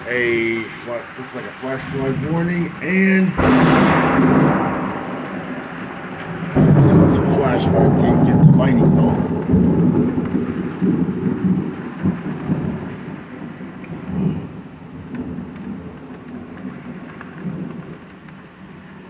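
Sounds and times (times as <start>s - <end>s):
heavy rain: 0.0s - 19.0s
thunder rumbling: 0.0s - 19.0s.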